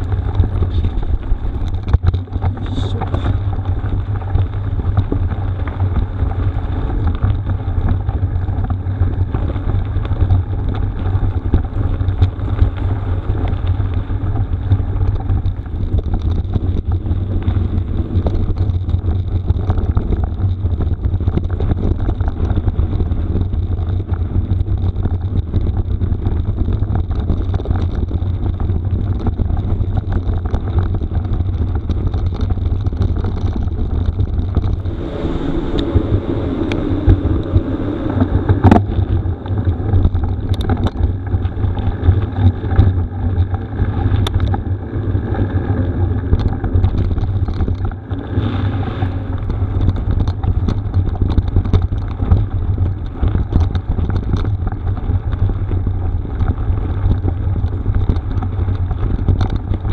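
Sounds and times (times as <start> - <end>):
sharp clicks and rattles: 0.0 - 59.9
tyres on rough gravel: 0.0 - 59.9
wind buffeting microphone: 0.0 - 59.9.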